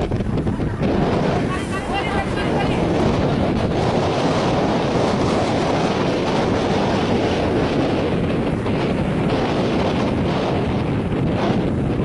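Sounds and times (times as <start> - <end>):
boat engine: 0.0 - 12.0
water churning along hull: 0.0 - 12.0
wind buffeting microphone: 0.0 - 12.0.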